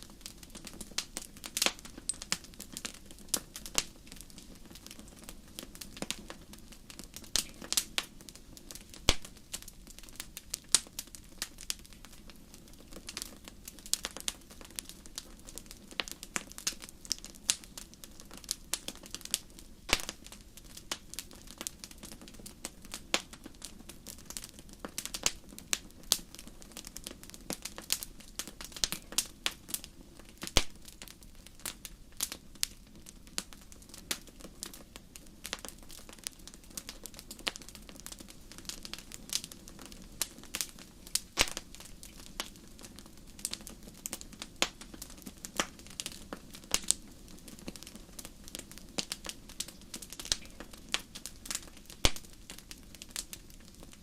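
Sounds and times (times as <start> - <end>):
low fire hiss: 0.0 - 54.0
wood fire crackling and popping: 0.0 - 54.0.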